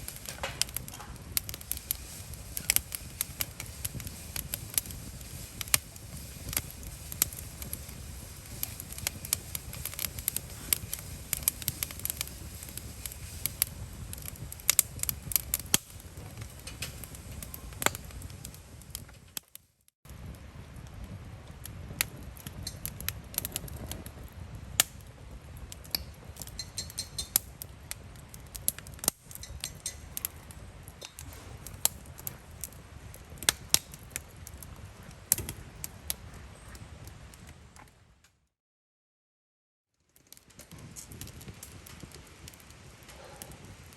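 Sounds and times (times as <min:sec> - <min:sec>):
campfire crackling and popping: 0:00.0 - 0:38.0, 0:40.0 - 0:43.9.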